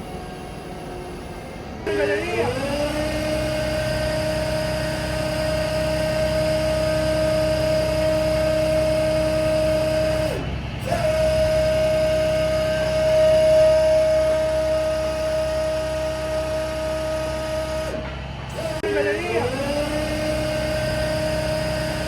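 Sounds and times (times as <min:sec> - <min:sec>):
diesel engine rumbling with whine: 0:00.0 - 0:22.0.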